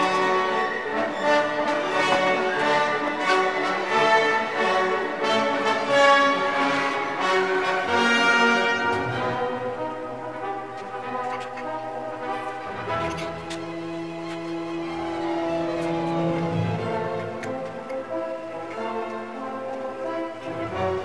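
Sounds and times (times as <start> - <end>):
orchestral music strings and brass: 0.0 - 21.0.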